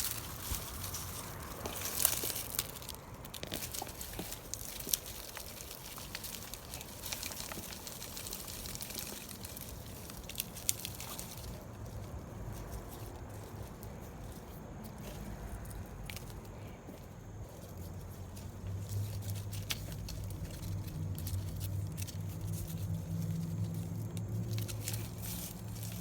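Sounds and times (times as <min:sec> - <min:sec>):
small clicks and crackles: 0:00.0 - 0:26.0
soil and dry plants rustling: 0:00.0 - 0:26.0.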